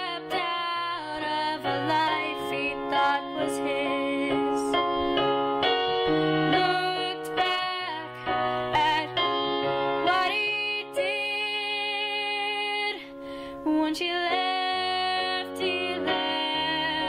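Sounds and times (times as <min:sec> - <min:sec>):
woman singing: 0:00.0 - 0:05.2, 0:06.5 - 0:17.0
piano accompaniment: 0:00.0 - 0:17.0.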